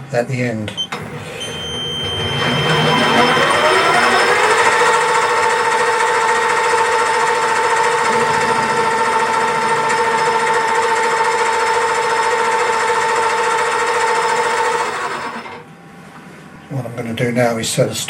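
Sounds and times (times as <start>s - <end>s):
lathe motor whine: 0.8s - 15.8s.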